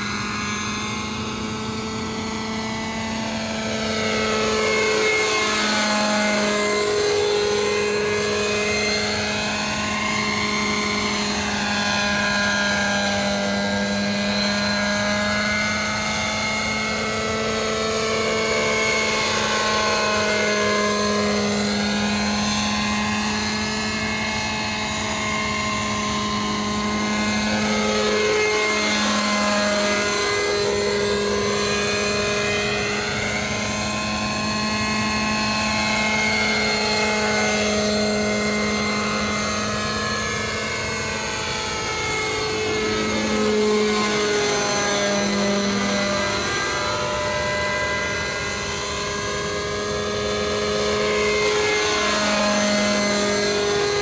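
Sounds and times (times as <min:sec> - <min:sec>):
model helicopter rotor drone: 0:00.0 - 0:54.0.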